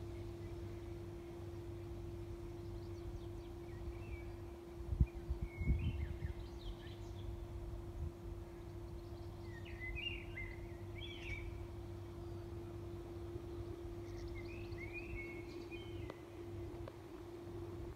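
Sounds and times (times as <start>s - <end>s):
songbirds singing: 0.0s - 17.9s
steady low hum: 0.0s - 17.9s.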